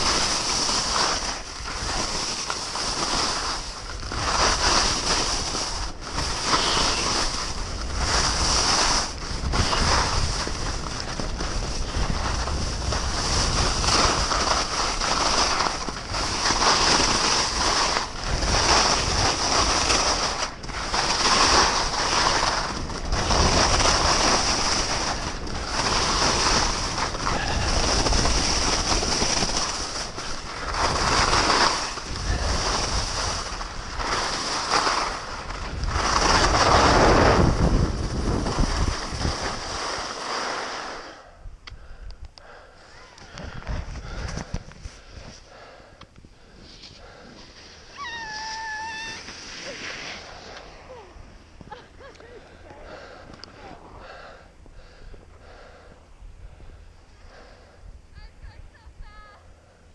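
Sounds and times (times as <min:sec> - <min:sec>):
skis scraping across snow: 0:00.0 - 0:41.3, 0:42.5 - 0:45.8, 0:46.4 - 0:55.9
wind buffeting microphone: 0:03.6 - 0:40.1, 0:43.2 - 0:59.6.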